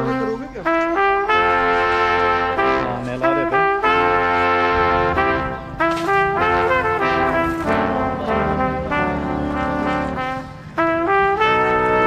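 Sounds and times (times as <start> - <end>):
brass melody: 0.0 - 12.0.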